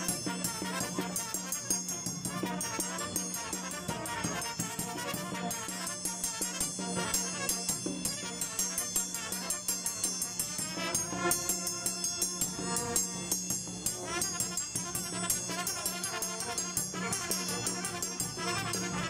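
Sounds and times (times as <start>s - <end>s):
brass band playing a march: 0.0s - 11.4s, 14.2s - 19.0s
bass drum and cymbal beat: 0.0s - 19.0s.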